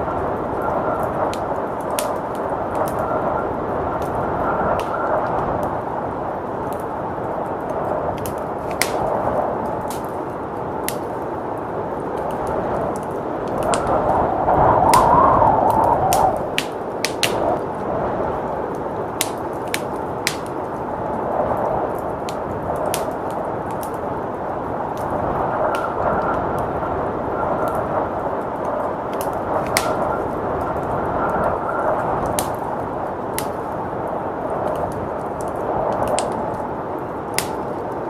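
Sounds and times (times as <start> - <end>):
blizzard wind: 0.0 - 38.0
wood fire crackling: 0.0 - 38.0.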